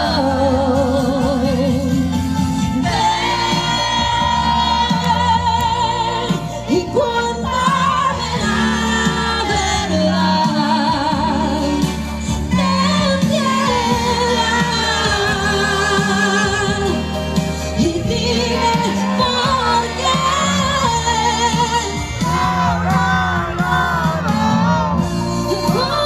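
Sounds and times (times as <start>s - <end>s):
band with bass line: 0.0s - 26.0s
person singing with vibrato: 0.0s - 26.0s.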